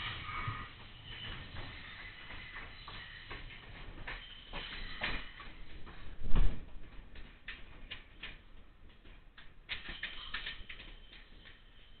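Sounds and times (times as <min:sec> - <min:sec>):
train wheels clacking over rail joints: 0:00.0 - 0:12.0.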